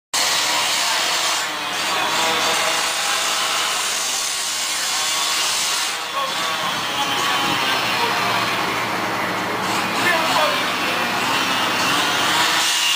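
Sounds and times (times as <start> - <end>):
saw grinding through metal: 0.2 - 12.9.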